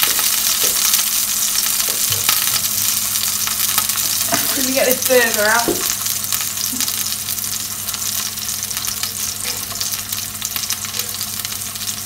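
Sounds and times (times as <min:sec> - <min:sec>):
mushrooms sizzling in oil: 0:00.0 - 0:12.0.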